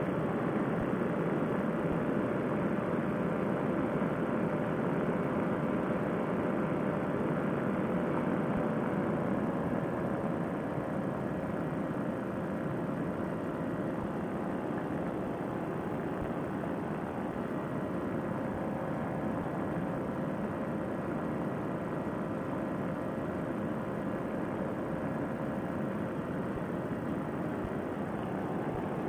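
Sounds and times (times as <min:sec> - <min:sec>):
two-stroke engine and propeller: 0:00.0 - 0:29.0.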